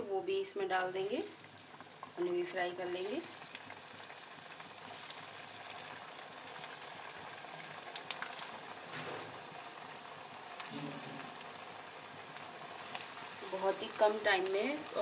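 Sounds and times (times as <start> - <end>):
fritters sizzling in oil: 0.6 - 15.0
oil crackling and popping: 1.0 - 15.0.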